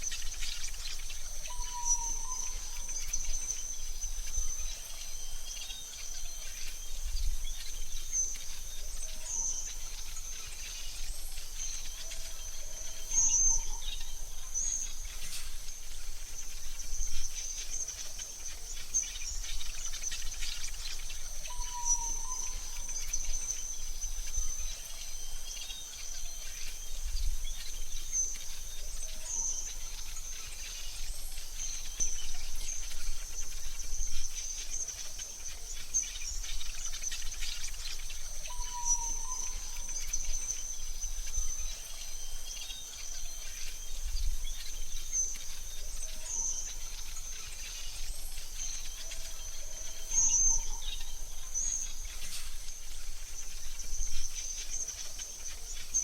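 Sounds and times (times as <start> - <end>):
bird chirps: 0.0 - 56.0
insect trill: 0.0 - 56.0.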